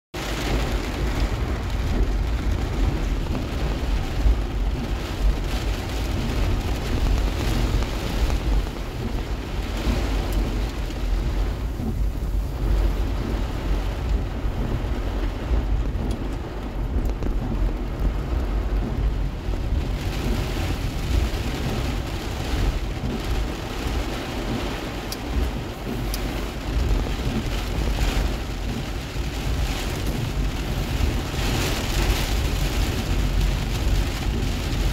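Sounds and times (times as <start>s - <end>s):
heavy rain on car roof: 0.1s - 34.9s
low rumble: 0.2s - 34.9s.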